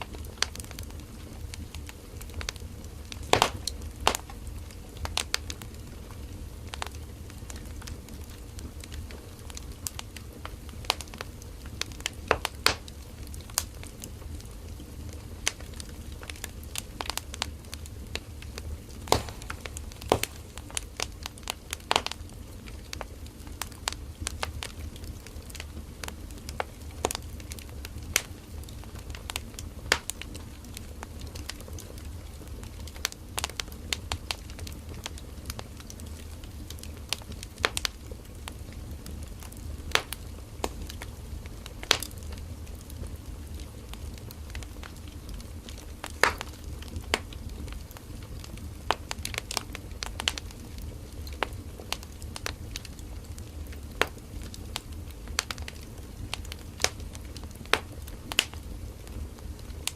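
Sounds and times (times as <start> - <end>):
low flame rumble: 0.0 - 59.9
wood crackling and popping: 0.0 - 59.9.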